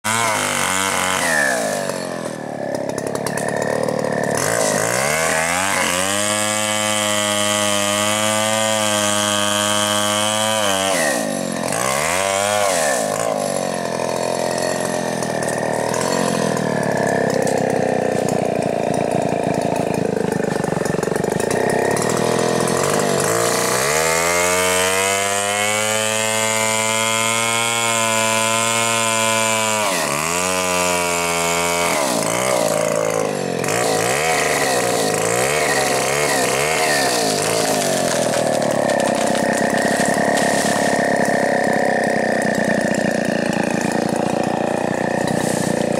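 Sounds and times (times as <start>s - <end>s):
chainsaw cutting and revving: 0.0s - 45.9s.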